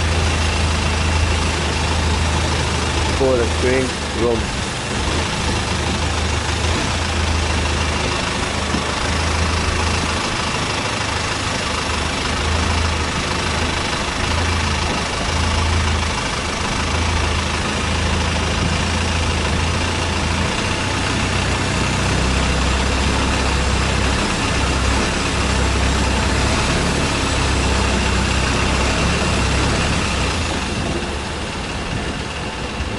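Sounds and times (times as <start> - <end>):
engine running: 0.0 - 32.9.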